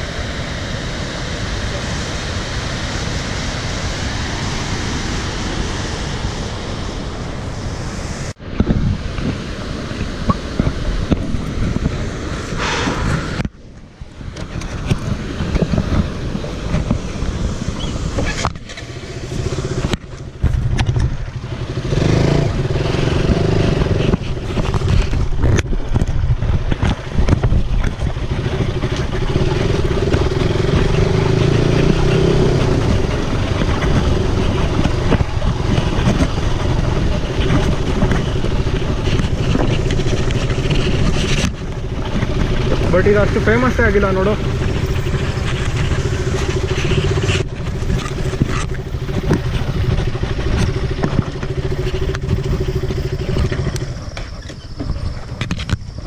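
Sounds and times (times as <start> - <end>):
wind noise on microphone: 0.0 - 56.0
motorcycle engine running: 8.6 - 56.0.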